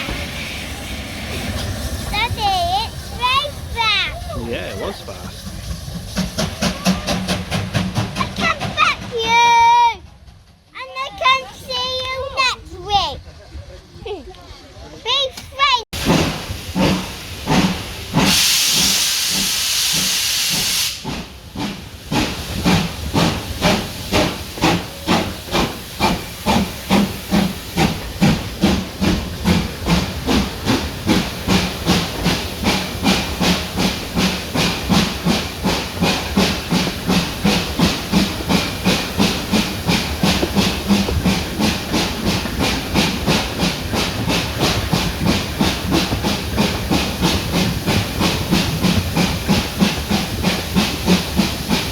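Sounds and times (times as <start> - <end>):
loud hiss of steam: 0.0 - 8.4, 16.0 - 51.9
steam locomotive exhaust beats: 0.0 - 12.6, 15.6 - 51.9.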